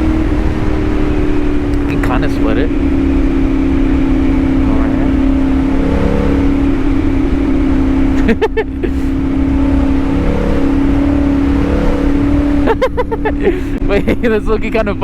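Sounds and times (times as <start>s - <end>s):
low wind rumble: 0.0s - 15.0s
motorcycle engine running: 0.0s - 15.0s.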